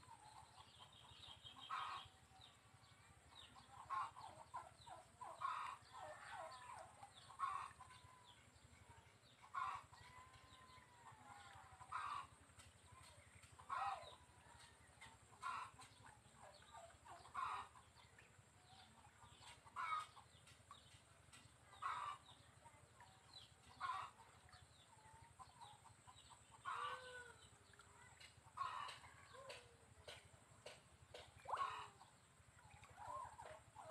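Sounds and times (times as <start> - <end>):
chicken clucking: 0.1 - 2.2, 3.3 - 33.9.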